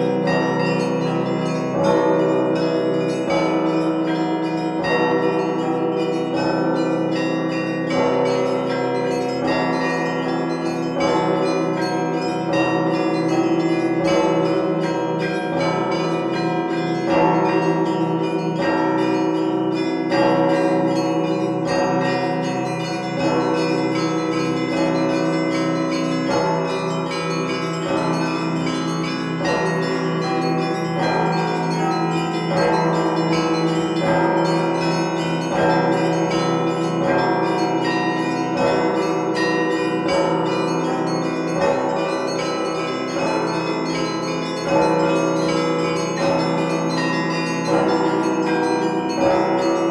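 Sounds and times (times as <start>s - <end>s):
heavy church bell: 0.0s - 49.9s
small high bells pealing: 0.0s - 49.9s.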